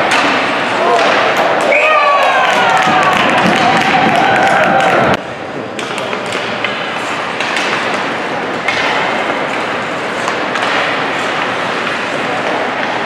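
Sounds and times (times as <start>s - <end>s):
rink and crowd noise: 0.0s - 13.0s.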